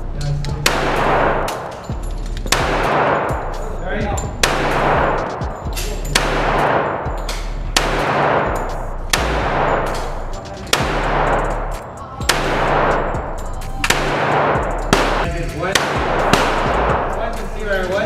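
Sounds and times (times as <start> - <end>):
gunshots with echoing ring: 0.6 - 18.0.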